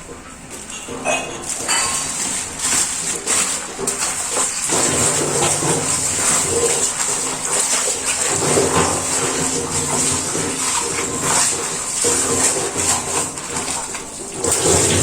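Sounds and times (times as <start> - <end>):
stones rinsed by hand: 0.0 - 15.0
water running and splashing: 0.3 - 15.0.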